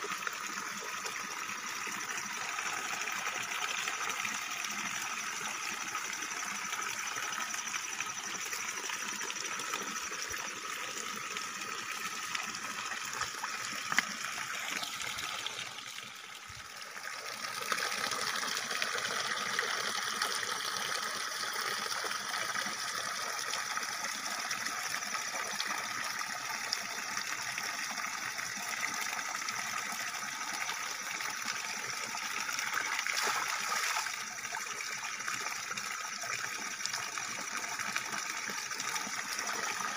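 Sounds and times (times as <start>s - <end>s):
water pouring and splashing: 0.0s - 20.8s, 28.2s - 39.9s.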